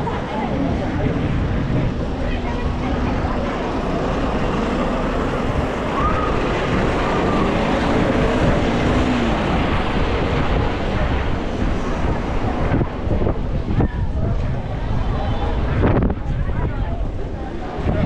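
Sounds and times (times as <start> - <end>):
street noise: 0.0 - 18.0
wind rushing over microphone: 0.0 - 18.0.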